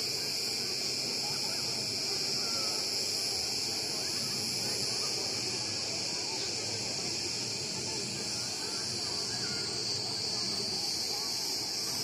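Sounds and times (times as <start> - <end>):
cicadas buzzing: 0.0 - 12.0
faint distant voices: 0.0 - 12.0.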